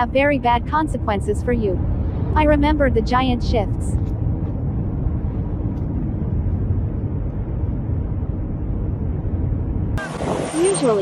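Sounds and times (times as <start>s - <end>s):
road and wind noise from car: 0.0s - 11.0s.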